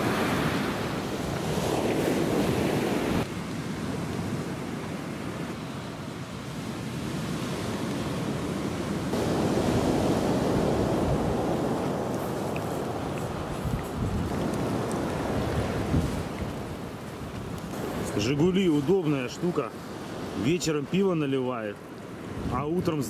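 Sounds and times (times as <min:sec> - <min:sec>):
wind buffeting microphone: 0:00.0 - 0:19.0, 0:22.2 - 0:23.0
sea surf washing onto shore: 0:00.0 - 0:23.0.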